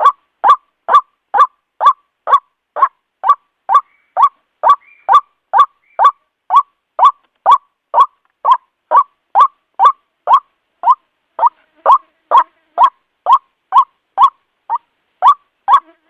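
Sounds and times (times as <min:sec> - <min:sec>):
waterhen calling: 0:00.0 - 0:15.9.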